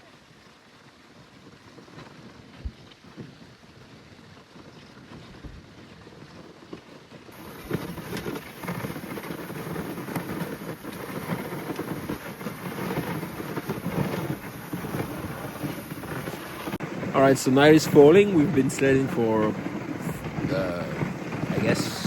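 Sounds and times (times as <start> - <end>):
sled runners scraping on snow: 0.0 - 22.0
wind buffeting microphone: 1.5 - 22.0.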